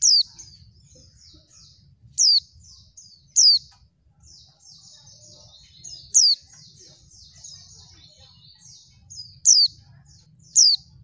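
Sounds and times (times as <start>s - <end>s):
soft high bird twittering: 0.0s - 11.0s.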